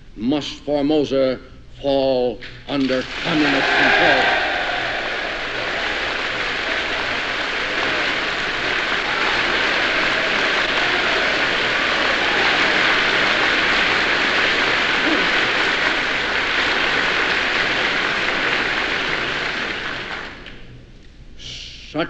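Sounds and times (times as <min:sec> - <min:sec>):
audience applause: 0:02.8 - 0:20.6.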